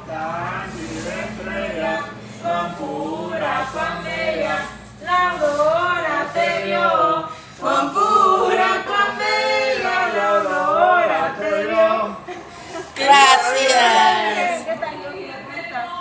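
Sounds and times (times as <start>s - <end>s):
group singing unaccompanied: 0.0s - 15.2s.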